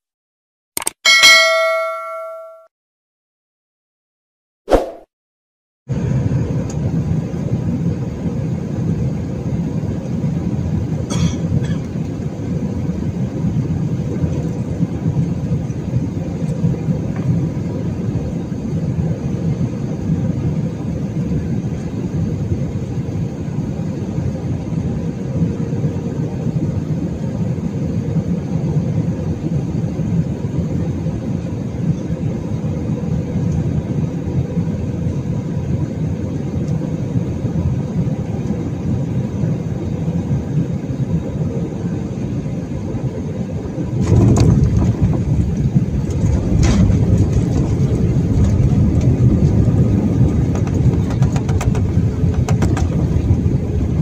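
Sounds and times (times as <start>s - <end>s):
jet engines rumbling: 5.9s - 54.0s.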